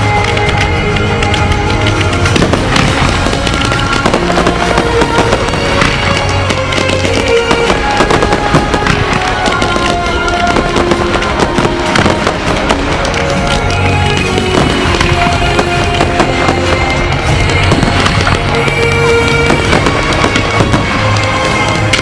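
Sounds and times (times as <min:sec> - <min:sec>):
fireworks bangs and crackles: 0:00.0 - 0:22.0
loud music: 0:00.0 - 0:22.0.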